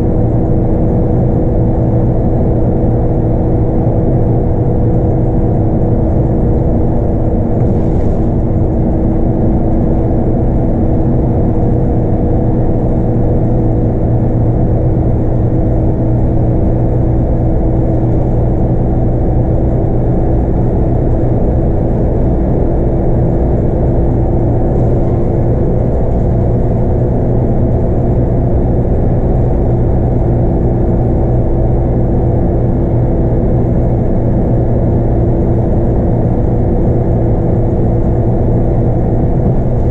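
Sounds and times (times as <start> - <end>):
bus engine drone: 0.0 - 39.9
road rumble: 0.0 - 39.9.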